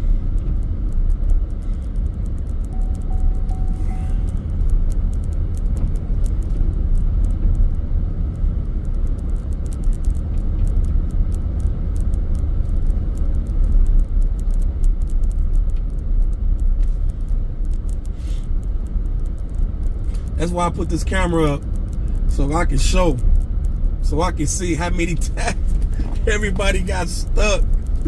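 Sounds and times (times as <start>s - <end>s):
car road rumble in snow: 0.0s - 28.0s.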